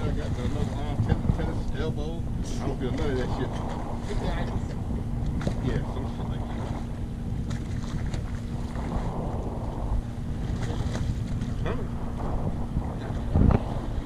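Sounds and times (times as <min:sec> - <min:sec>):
boat engine humming: 0:00.0 - 0:14.0
water washing against hull: 0:00.0 - 0:14.0
wind buffeting microphone: 0:00.0 - 0:14.0.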